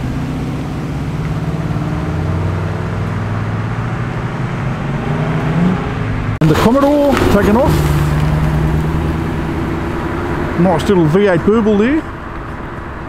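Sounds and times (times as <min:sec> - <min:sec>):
car engine driving away: 0:00.0 - 0:13.0.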